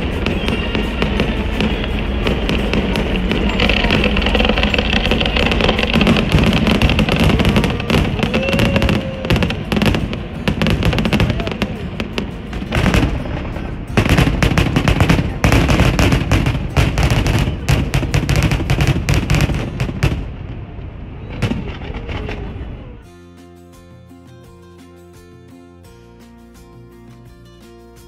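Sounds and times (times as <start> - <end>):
fireworks exploding and crackling: 0.0 - 23.0.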